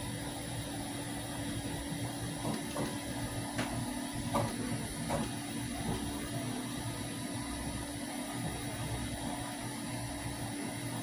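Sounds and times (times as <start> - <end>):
print head whirring: 0.0 - 11.0
printer fan hum: 0.0 - 11.0.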